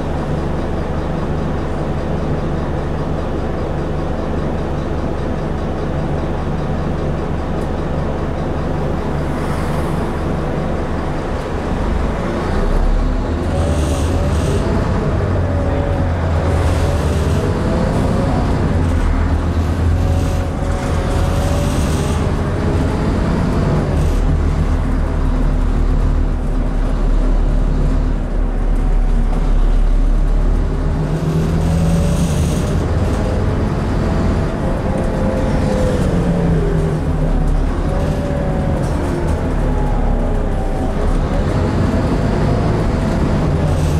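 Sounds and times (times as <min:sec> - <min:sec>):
bus diesel engine running: 0:00.0 - 0:43.9.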